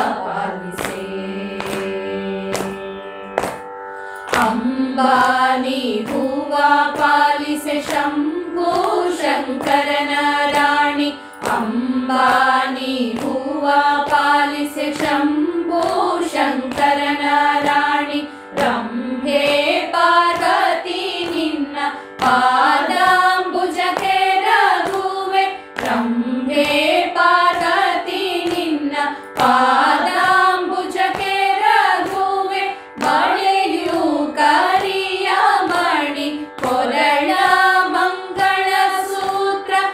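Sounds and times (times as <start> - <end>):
women singing devotional song: 0.0 - 39.9.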